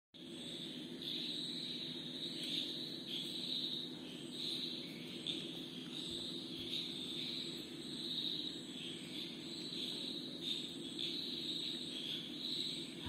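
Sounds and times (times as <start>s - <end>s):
insects trilling: 0.2s - 13.0s.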